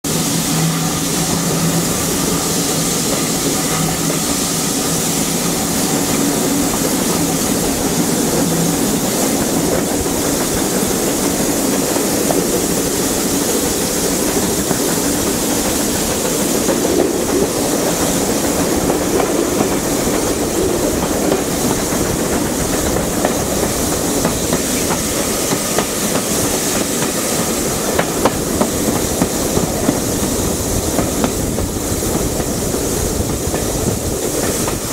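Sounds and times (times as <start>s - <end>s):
steam hiss: 0.0s - 34.9s
rush of wheels and wind: 0.2s - 34.9s.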